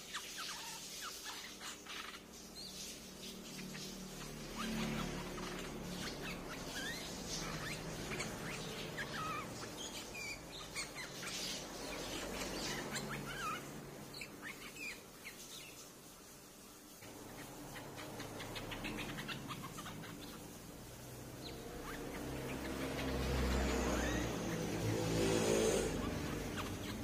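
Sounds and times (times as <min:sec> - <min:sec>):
bulbuls chirping and whistling: 0:00.0 - 0:15.8, 0:17.0 - 0:27.0.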